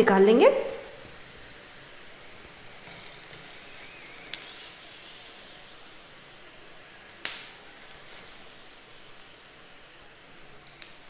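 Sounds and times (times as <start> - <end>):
patties sizzling in oil: 0.0 - 11.0.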